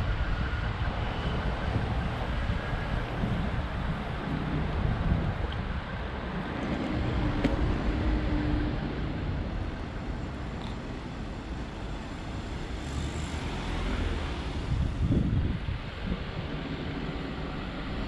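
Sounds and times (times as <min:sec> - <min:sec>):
road traffic hiss: 0:00.0 - 0:18.0.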